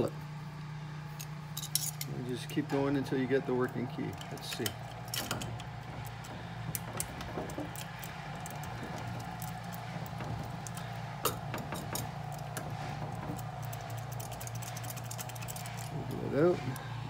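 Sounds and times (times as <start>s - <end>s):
steady low hum: 0.0s - 17.0s
small metallic clicks and rattles: 1.1s - 2.7s, 3.6s - 17.0s.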